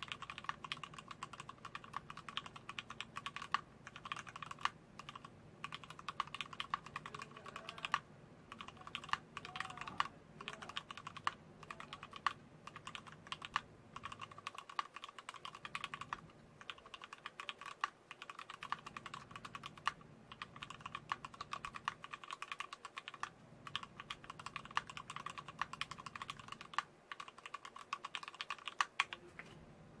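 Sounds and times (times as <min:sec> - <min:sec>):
mechanical keyboard typing: 0:00.0 - 0:29.2.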